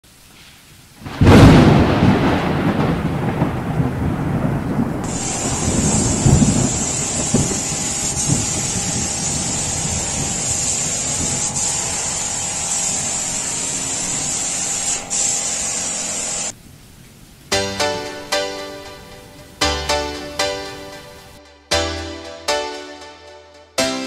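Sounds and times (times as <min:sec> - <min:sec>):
steady hiss: 0:00.0 - 0:03.1, 0:04.8 - 0:22.0.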